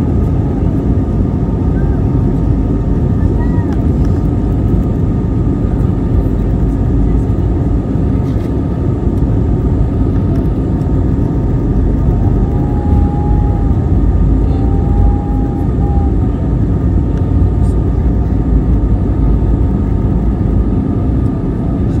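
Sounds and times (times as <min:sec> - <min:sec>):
jet engines rumbling during takeoff: 0:00.0 - 0:22.0.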